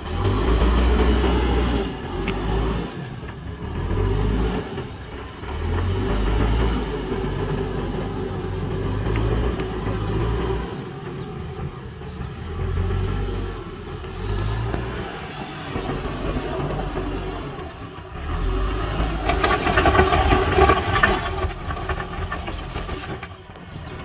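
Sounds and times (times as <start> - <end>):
diesel engine rumbling under load: 0.0 - 24.0.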